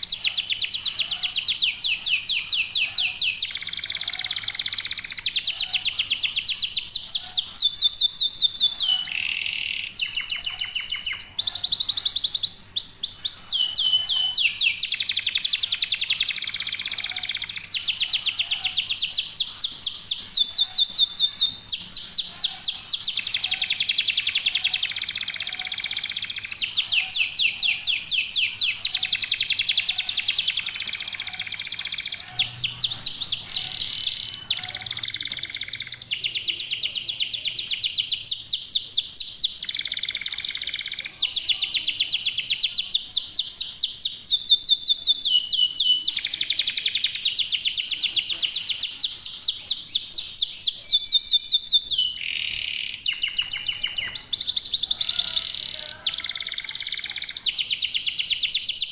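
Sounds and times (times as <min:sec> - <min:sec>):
canaries singing trills: 0:00.0 - 0:58.9.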